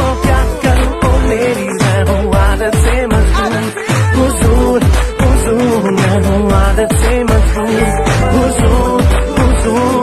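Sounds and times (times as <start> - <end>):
pop song singing: 0.0 - 10.0.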